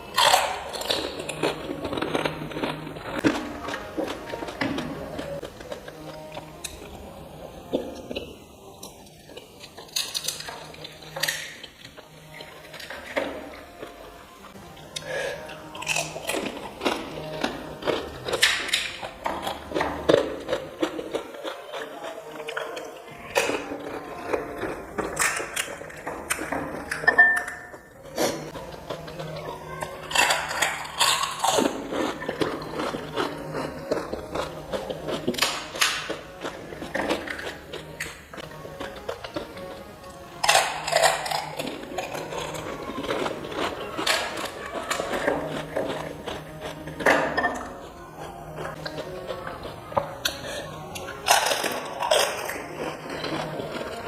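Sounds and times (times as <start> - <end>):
crunchy bites and chewing: 0.1 - 7.0, 14.8 - 27.0, 28.2 - 54.0.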